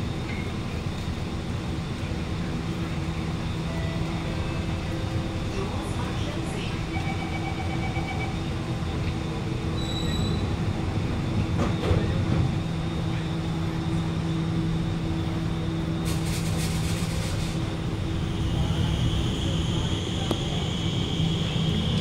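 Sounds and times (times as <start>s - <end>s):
train equipment humming: 0.0s - 22.0s.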